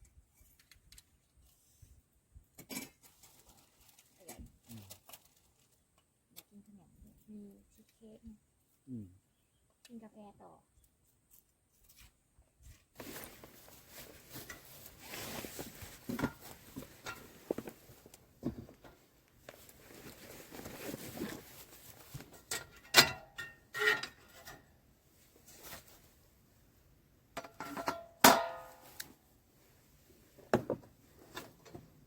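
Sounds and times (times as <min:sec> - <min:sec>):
rustling and handling of objects: 0:00.1 - 0:08.2, 0:10.8 - 0:32.0.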